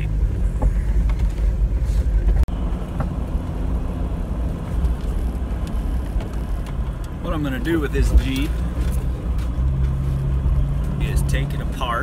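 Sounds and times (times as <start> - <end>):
car engine and drivetrain rumble: 0.0 - 12.0.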